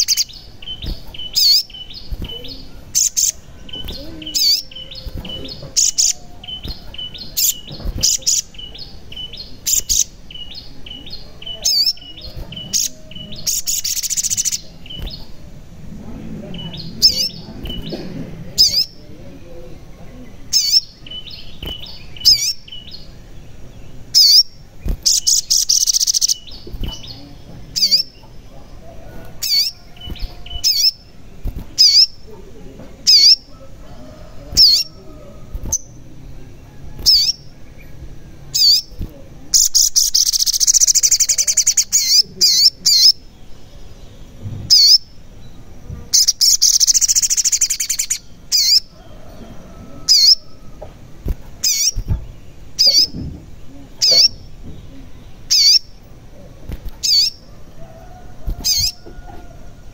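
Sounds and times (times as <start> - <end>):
bird chirping: 0.0 - 59.6
fast twittering birdsong: 0.0 - 59.9.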